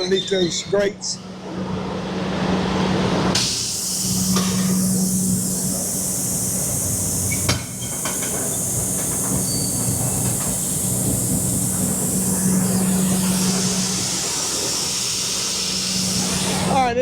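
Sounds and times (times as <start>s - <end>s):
engine hum: 0.0s - 17.0s
grain pouring hiss: 3.4s - 17.0s.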